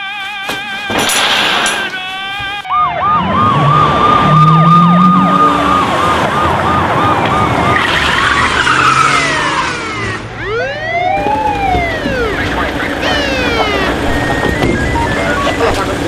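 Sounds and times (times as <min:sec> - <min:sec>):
siren wailing glides: 0:01.7 - 0:16.0
police siren yelp: 0:01.8 - 0:16.0
car engines running: 0:02.1 - 0:16.0.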